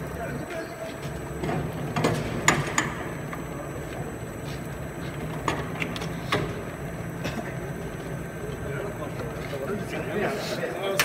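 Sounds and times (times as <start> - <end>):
winder machine hum: 0.0 - 11.0.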